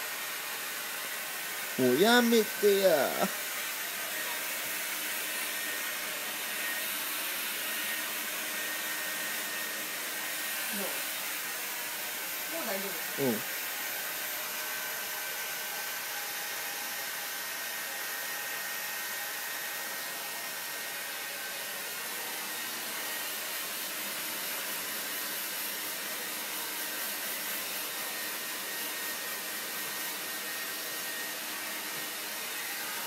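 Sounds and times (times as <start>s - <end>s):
hair dryer blowing: 0.0s - 33.0s.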